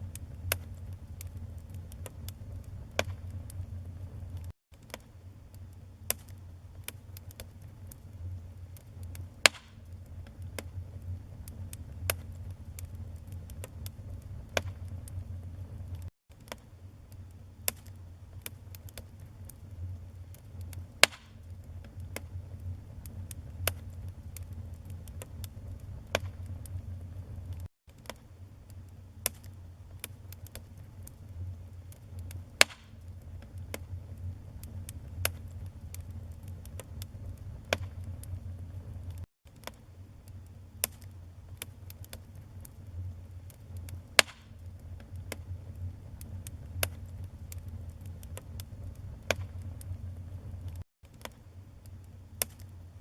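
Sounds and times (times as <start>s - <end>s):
burning logs crackling and popping: 0.0s - 53.0s
low rumble of flames: 0.0s - 53.0s.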